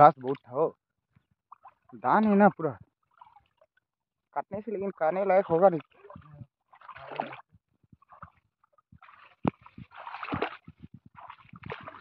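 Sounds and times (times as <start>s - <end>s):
legs wading through water: 0.0s - 4.0s, 5.2s - 12.0s.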